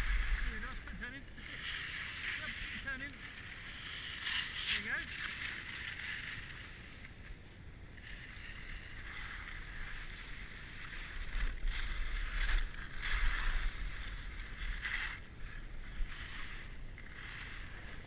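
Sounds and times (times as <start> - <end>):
skis scraping over snow: 0.0 - 18.0
wind rumbling on microphone: 0.0 - 18.0.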